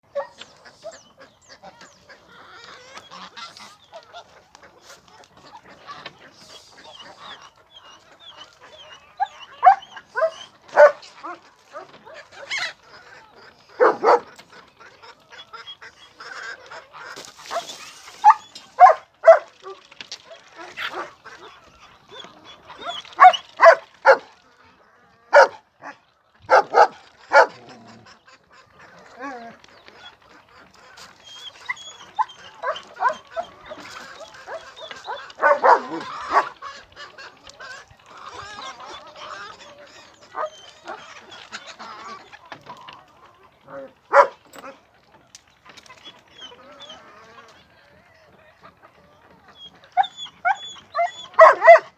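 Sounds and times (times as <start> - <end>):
poultry calling: 0.0 - 51.9.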